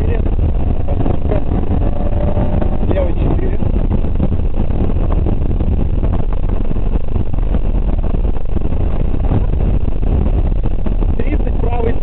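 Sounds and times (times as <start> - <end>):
car engine droning under load: 0.0 - 11.0
tyres and gravel rumbling: 0.0 - 12.0.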